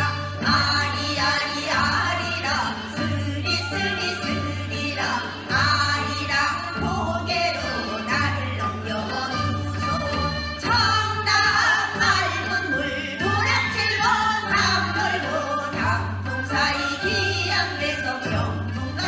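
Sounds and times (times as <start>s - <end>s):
group singing folk song: 0.0s - 19.0s.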